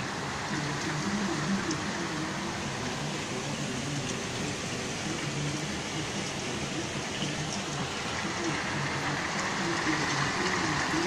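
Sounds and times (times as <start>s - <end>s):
heavy rain pouring: 0.0s - 11.0s
rain drops ticking: 0.0s - 11.0s.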